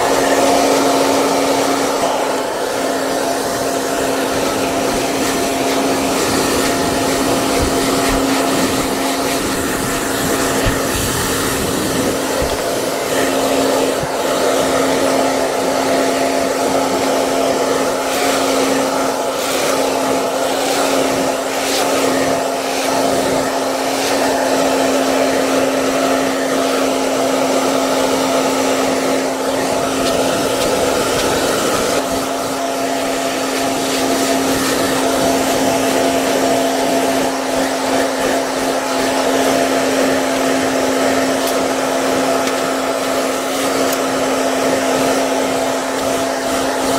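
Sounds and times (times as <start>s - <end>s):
hair dryer blowing air: 0.0s - 46.9s.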